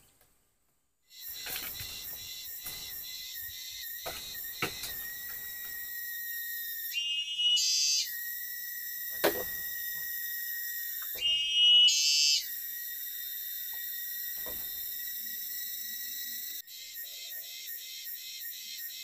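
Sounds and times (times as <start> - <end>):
insects buzzing drone: 1.0 - 19.0.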